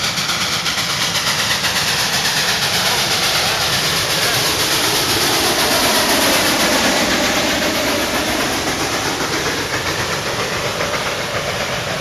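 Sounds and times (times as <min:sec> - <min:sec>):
steam train rolling past: 0:00.0 - 0:12.0.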